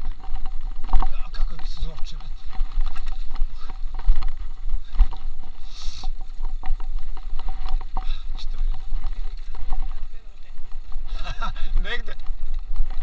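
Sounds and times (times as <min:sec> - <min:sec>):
bike rattling over bumps: 0:00.0 - 0:13.0
wind buffeting microphone: 0:00.0 - 0:13.0.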